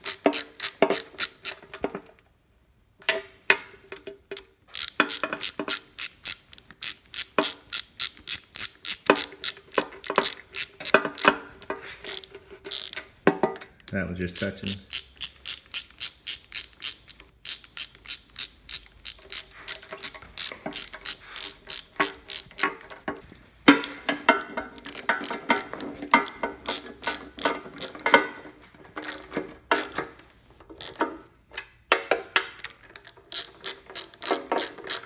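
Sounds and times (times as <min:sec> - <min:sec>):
hand ratchet clicking: 0:00.0 - 0:01.9, 0:04.7 - 0:13.1, 0:13.8 - 0:28.3, 0:29.0 - 0:30.2, 0:30.8 - 0:31.2, 0:32.4 - 0:35.0.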